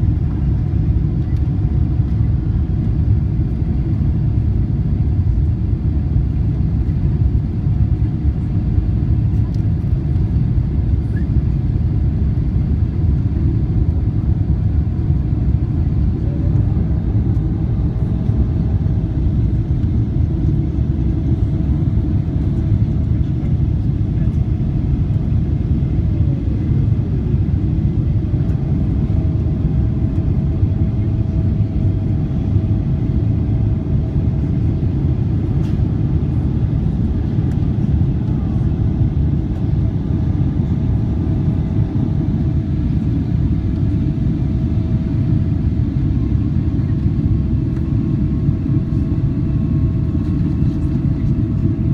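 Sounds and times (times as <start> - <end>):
jet engines and airflow roar: 0.0 - 51.9.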